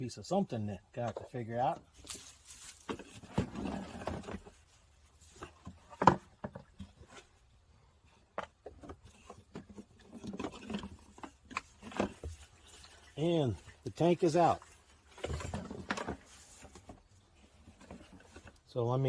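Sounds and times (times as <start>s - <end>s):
fuel tank clunking and scraping: 1.0s - 18.6s.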